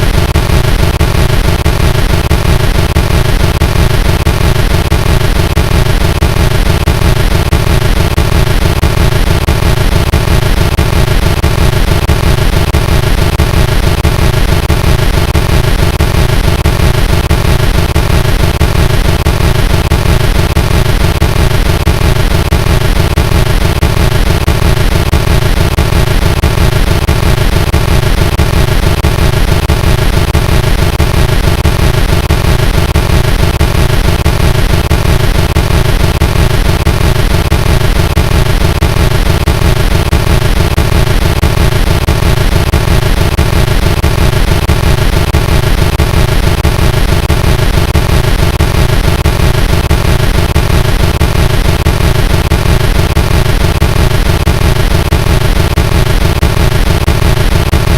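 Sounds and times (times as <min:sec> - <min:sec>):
fast pulsing rumble: 0:00.0 - 0:57.9
harsh distorted noise: 0:00.0 - 0:57.9.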